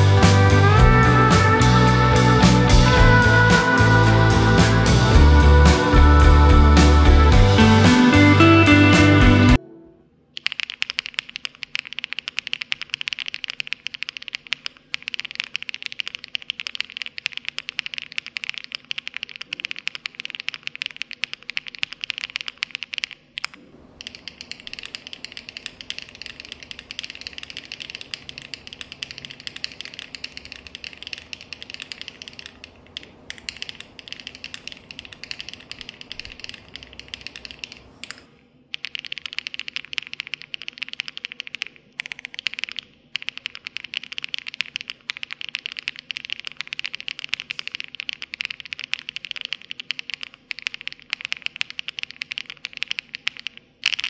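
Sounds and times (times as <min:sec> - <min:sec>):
mechanical keyboard typing: 0:10.4 - 0:54.0.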